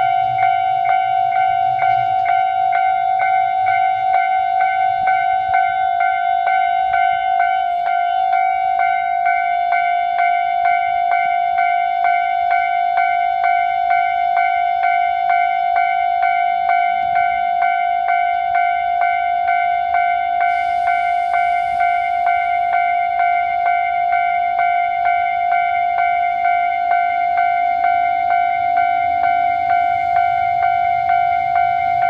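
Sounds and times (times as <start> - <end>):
level crossing warning bell: 0.0 - 32.0.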